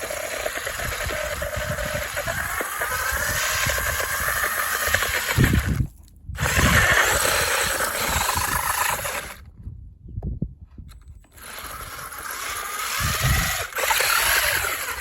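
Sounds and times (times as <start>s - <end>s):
toy car motor whining: 0.0s - 9.5s, 11.2s - 15.0s.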